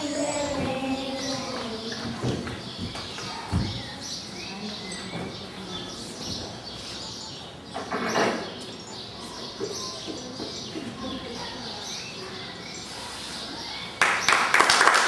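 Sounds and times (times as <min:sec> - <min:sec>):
children's voices hubbub: 0:00.0 - 0:14.5.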